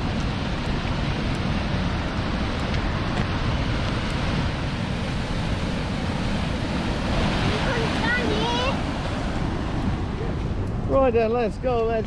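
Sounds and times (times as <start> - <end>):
river water rushing: 0.0 - 11.0
wind buffeting microphone: 0.0 - 12.0.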